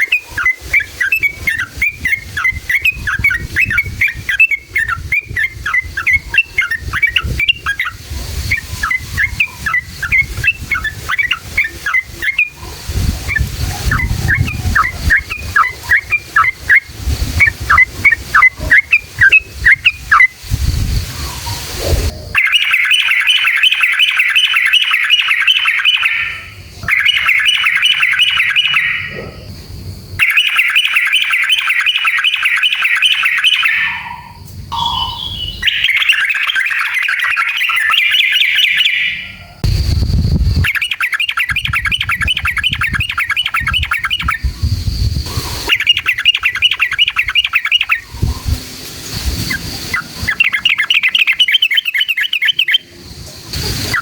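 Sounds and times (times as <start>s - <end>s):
bird singing rapid trill: 0.0s - 20.4s, 22.3s - 29.4s, 30.2s - 48.6s, 49.4s - 53.0s.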